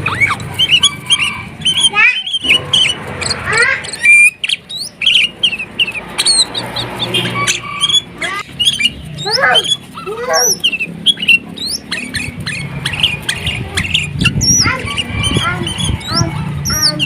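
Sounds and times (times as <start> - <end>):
bird song chirps and whistles: 0.0 - 17.0.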